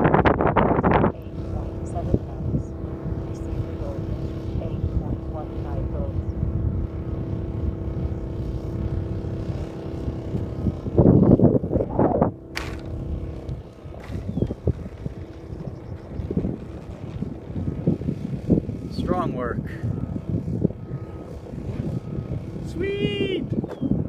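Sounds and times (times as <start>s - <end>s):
model airplane motor: 0.0s - 24.0s
wind buffeting microphone: 0.0s - 24.0s.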